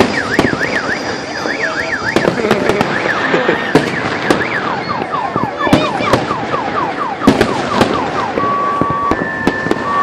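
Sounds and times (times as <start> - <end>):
car alarm siren wailing: 0.0 - 10.0
fireworks cracking: 0.0 - 10.0.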